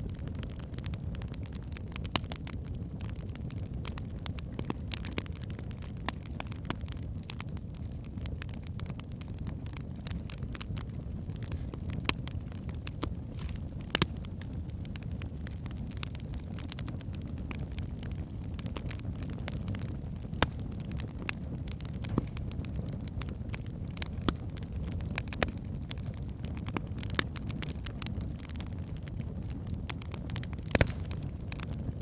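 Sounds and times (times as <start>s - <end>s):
flames rumbling: 0.0s - 32.0s
logs crackling and popping: 0.0s - 32.0s.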